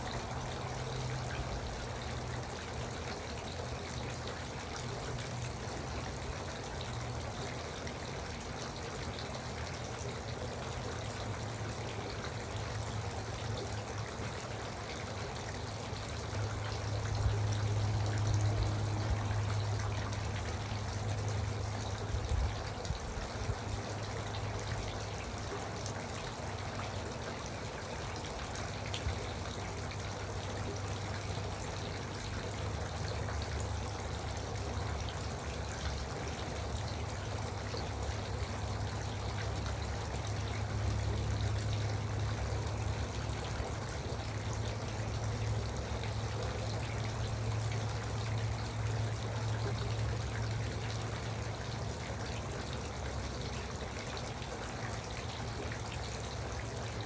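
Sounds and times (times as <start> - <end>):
fountain trickling and splashing: 0.0 - 57.0.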